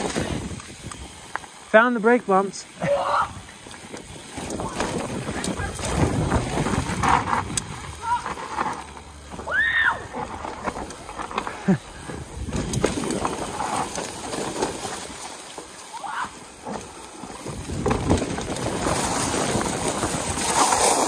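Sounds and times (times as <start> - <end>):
bike tyres on dirt trail: 0.0 - 21.0
bike knocks and rattles: 3.4 - 21.0.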